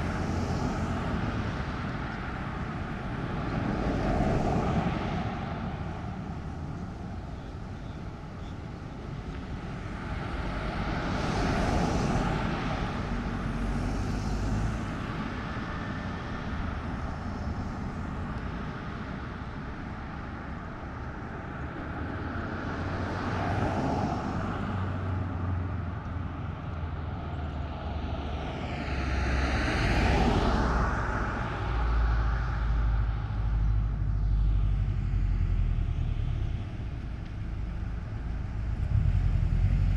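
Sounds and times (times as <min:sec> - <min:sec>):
low steady traffic rumble: 0:00.0 - 0:39.9
vehicles passing by: 0:00.0 - 0:39.9.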